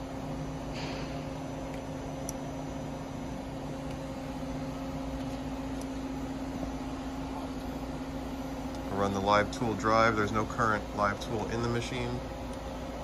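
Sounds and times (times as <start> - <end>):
machine hum: 0.0 - 13.0
machine spindle whine: 0.0 - 13.0.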